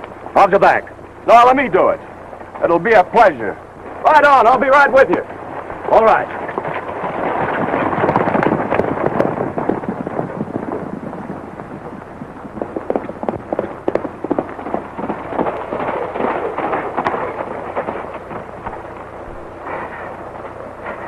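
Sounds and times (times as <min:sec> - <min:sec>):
film soundtrack hiss: 0:00.0 - 0:21.0
galloping horse hooves: 0:00.0 - 0:21.0.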